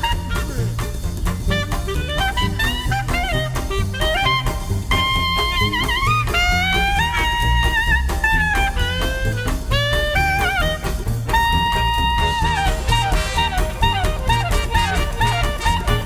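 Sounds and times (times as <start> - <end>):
bass and drum kit: 0.0 - 16.0
horns playing held notes: 0.0 - 16.0.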